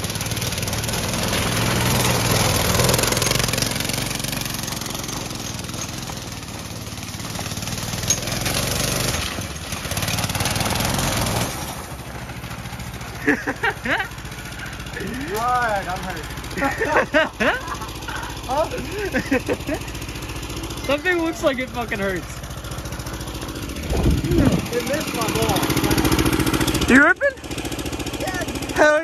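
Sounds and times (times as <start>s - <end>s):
go-kart engine running hard: 0.0s - 29.0s
tyres sliding on gravel: 0.0s - 29.0s.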